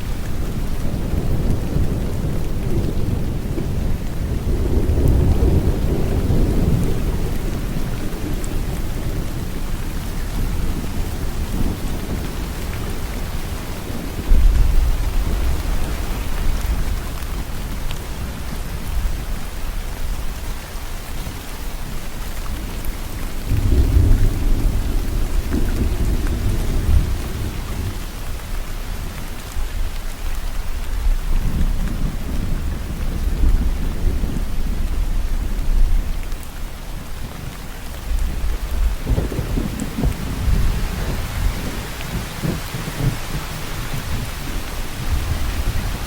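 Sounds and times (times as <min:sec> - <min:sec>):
low thunder rumbling: 0:00.0 - 0:20.6, 0:22.5 - 0:46.0
steady rain: 0:00.0 - 0:46.0.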